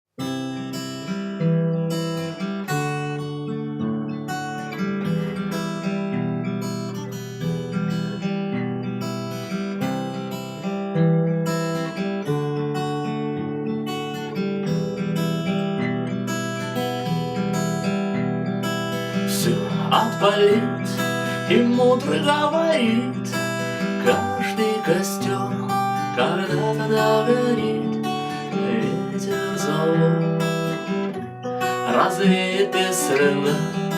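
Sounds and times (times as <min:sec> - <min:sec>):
fingerstyle acoustic guitar: 0:00.1 - 0:33.9.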